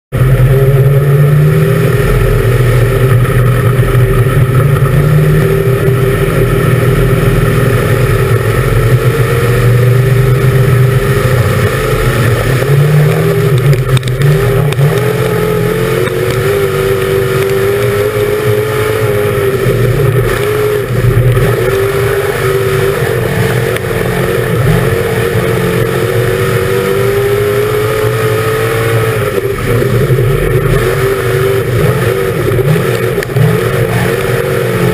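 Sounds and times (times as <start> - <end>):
race car engine: 0.1 - 34.9.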